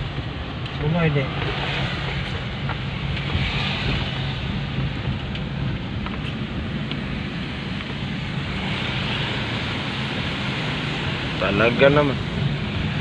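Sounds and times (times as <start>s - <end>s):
tyre noise on wet road: 0.0s - 13.0s
van engine hum: 0.0s - 13.0s.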